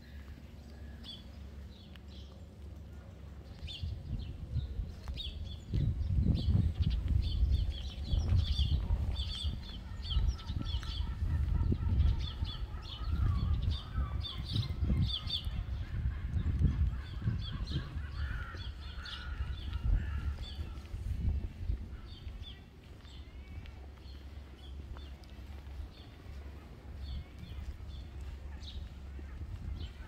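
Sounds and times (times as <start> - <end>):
low irregular rumble: 0.0 - 30.0
small birds chirping: 0.0 - 30.0.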